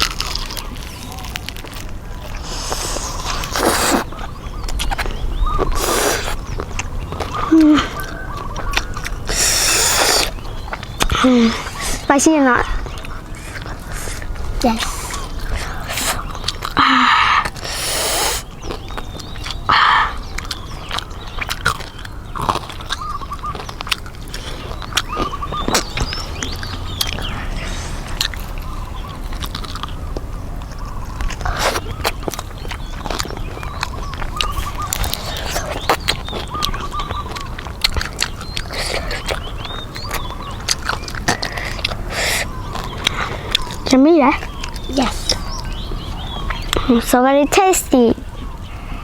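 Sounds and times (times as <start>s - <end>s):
crunchy chewing of fried chicken: 0.0s - 46.9s
faint bird chirps: 2.2s - 30.1s, 30.7s - 49.0s.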